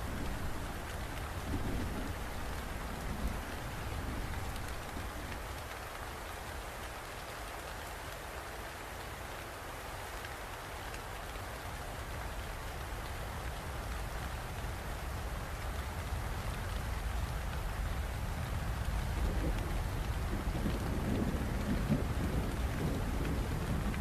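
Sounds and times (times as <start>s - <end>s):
raindrop ticks: 0.0s - 8.2s, 10.1s - 24.0s
steady rain hiss: 0.0s - 24.0s.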